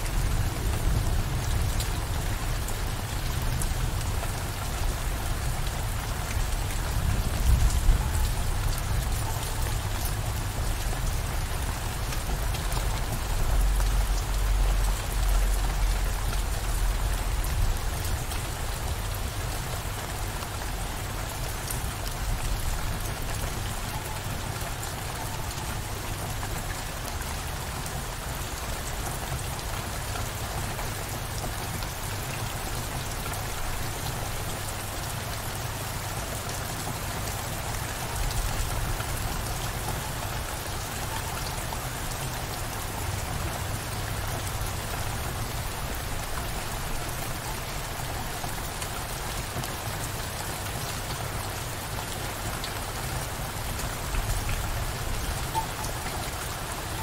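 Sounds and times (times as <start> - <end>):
steady downpour of rain: 0.0 - 57.0.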